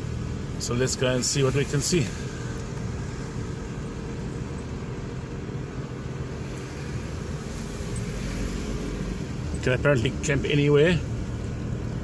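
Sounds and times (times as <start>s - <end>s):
car engine running: 0.0s - 12.0s
tyres on dirt road: 0.0s - 12.0s.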